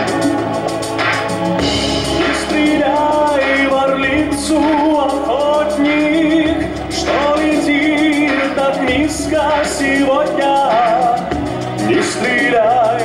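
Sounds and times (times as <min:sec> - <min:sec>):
instrumental accompaniment: 0:00.0 - 0:13.0
man singing a slow ballad: 0:02.3 - 0:13.0.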